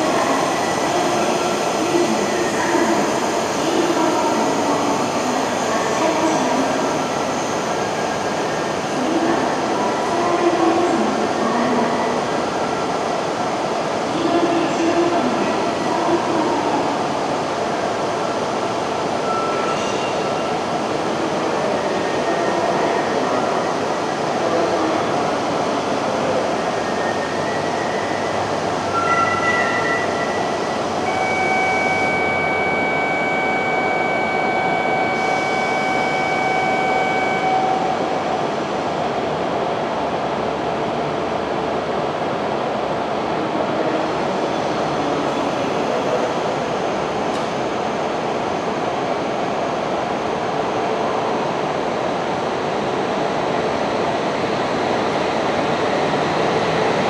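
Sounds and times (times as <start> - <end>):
train rail and running noise: 0.0 - 57.0.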